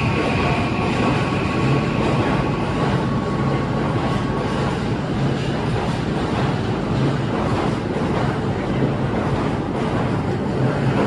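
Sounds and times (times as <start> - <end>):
subway train rushing past: 0.0 - 11.0.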